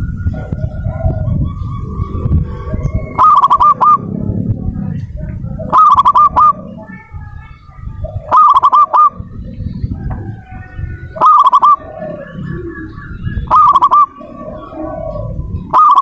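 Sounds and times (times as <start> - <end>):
dove cooing: 0.0 - 16.0
low background rumble: 0.0 - 16.0.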